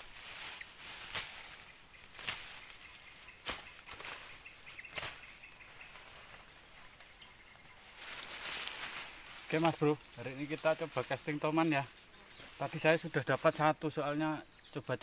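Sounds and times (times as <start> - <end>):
footsteps through undergrowth: 0.0 - 14.2
high insect drone: 0.0 - 15.0.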